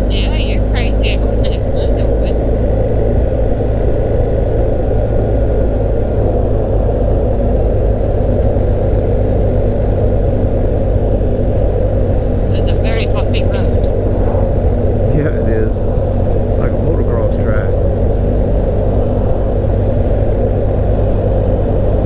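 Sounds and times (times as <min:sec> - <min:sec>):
motorcycle engine cruising: 0:00.0 - 0:22.0
wind and road noise: 0:00.0 - 0:22.0.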